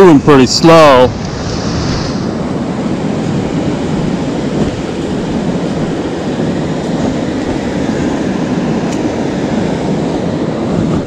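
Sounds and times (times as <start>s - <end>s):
ocean surf washing on beach: 0.0s - 11.0s
wind on microphone: 0.7s - 11.0s.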